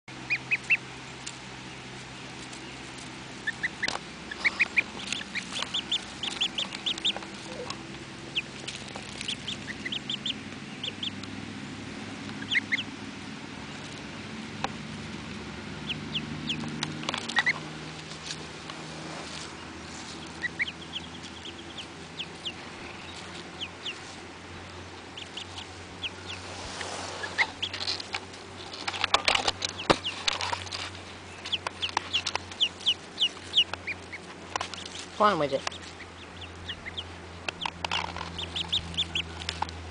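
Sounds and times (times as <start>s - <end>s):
ducklings and goslings peeping: 0.1s - 39.9s
faint low hum: 0.1s - 39.9s.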